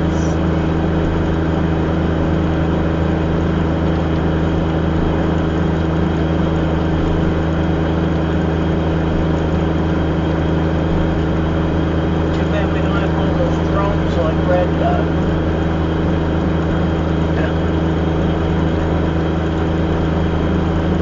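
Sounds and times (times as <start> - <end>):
car engine droning inside cabin: 0.0 - 21.0.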